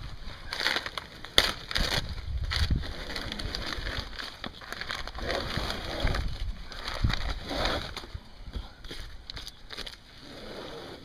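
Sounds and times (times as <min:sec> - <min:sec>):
rotten plywood tearing and crackling: 0:00.0 - 0:11.0.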